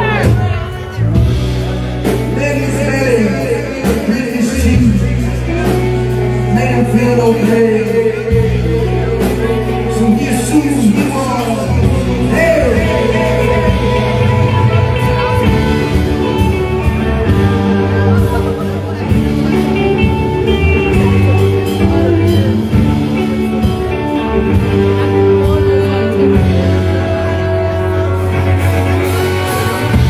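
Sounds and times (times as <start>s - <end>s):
live band playing: 0.0s - 30.0s.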